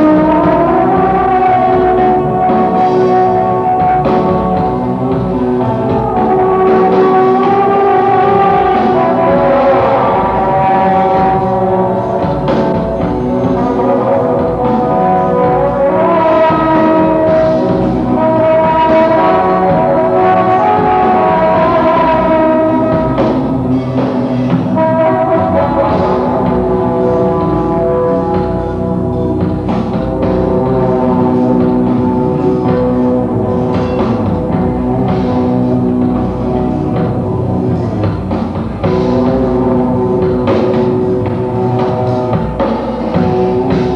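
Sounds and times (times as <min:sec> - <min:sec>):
loud live band music: 0:00.0 - 0:43.9.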